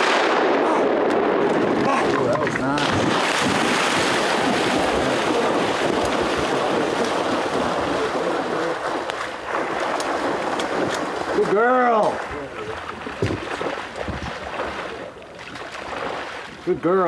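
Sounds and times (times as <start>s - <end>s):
dog splashing through water: 2.2s - 16.8s.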